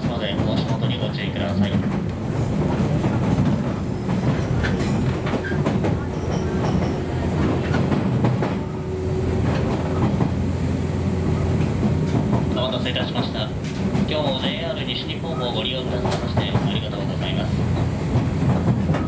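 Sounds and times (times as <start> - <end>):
wheels clattering over rail joints: 0.0 - 8.7, 11.5 - 19.0
train low rumble: 0.0 - 19.0.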